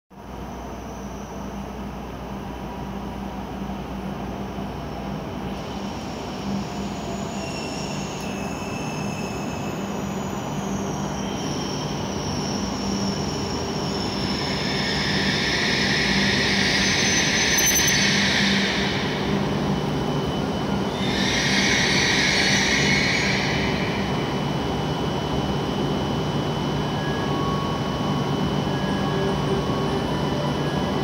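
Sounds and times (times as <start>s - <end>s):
high-speed train braking: 0.2s - 31.0s
high whines falling in pitch: 5.6s - 31.0s.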